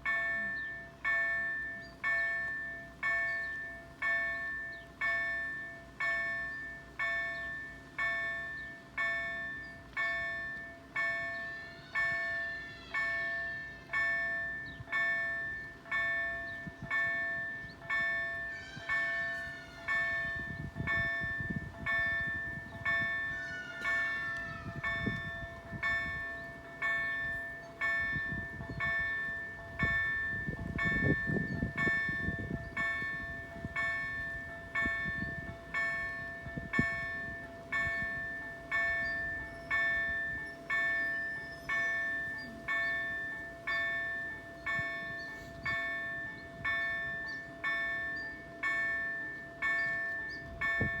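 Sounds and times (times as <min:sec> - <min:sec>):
level crossing bell ringing: 0:00.0 - 0:51.0.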